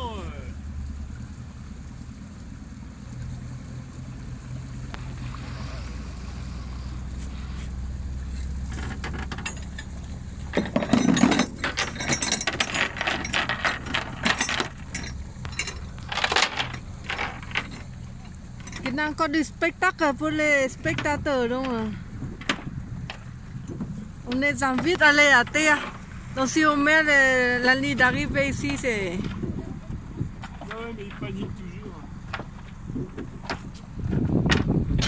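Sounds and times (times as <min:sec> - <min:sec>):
outboard engine humming: 0:00.0 - 0:35.0.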